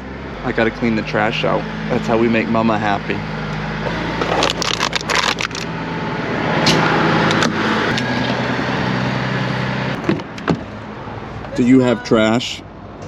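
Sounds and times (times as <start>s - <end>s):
car engine idling: 0.0s - 13.0s
trash crackling and scraping: 0.3s - 11.6s.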